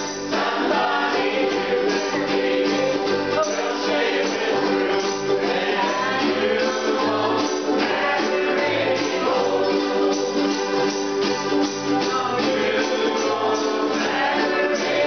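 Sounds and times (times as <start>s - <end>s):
group of voices singing: 0.0s - 15.0s
ukuleles and guitar strummed: 0.0s - 15.0s.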